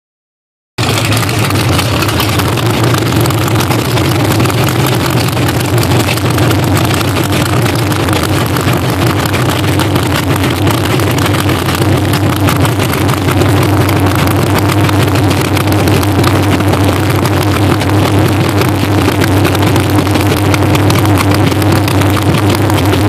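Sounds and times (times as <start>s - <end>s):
race car engines running: 0.8s - 23.0s.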